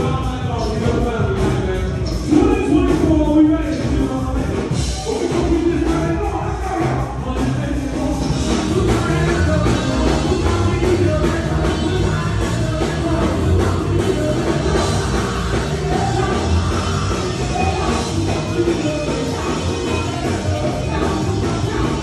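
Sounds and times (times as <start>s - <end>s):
drum kit: 0.0s - 22.0s
live rock band playing: 0.0s - 22.0s.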